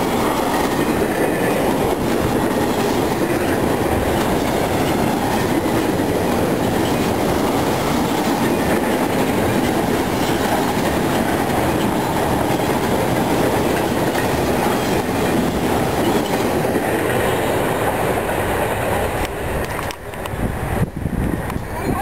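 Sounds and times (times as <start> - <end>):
freight train wheels clattering: 0.0 - 20.4.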